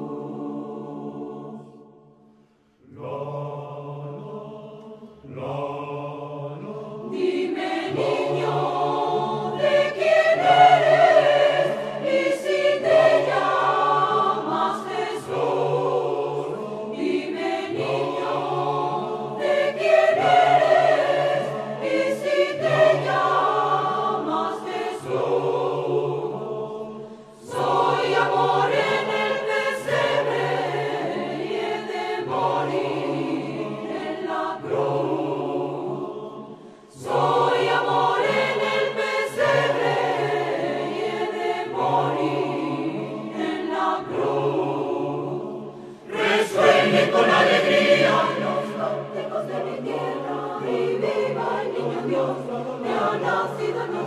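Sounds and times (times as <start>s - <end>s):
mixed choir singing carol: 0.0s - 54.0s.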